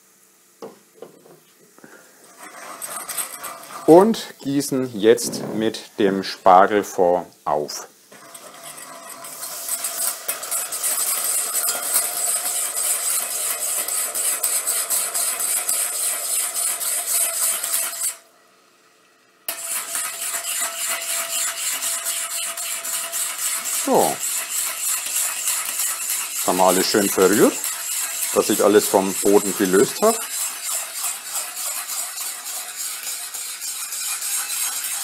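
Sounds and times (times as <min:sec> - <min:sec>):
whisk scraping metal pot: 0:02.2 - 0:05.8, 0:08.1 - 0:18.2, 0:19.5 - 0:35.0.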